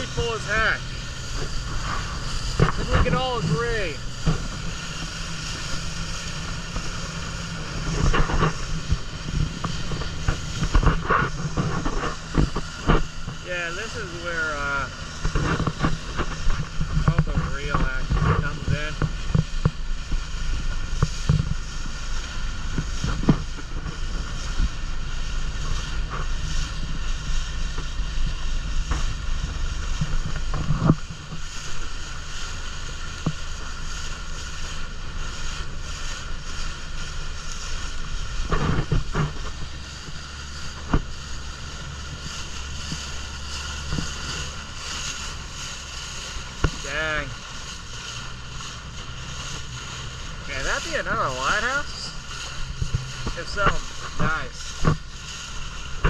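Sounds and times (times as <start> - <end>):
boat engine running: 0.0 - 56.0
wind on microphone: 0.0 - 56.0.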